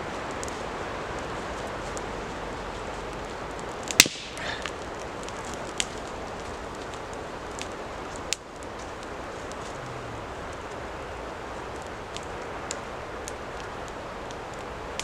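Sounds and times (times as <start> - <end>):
campfire crackling: 0.0 - 15.0
fire hiss: 0.0 - 15.0
fire popping and snapping: 0.0 - 15.0.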